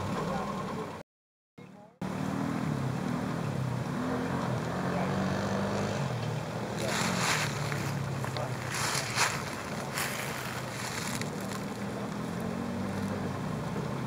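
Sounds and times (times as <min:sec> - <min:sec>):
truck engine revving: 0:02.0 - 0:14.0.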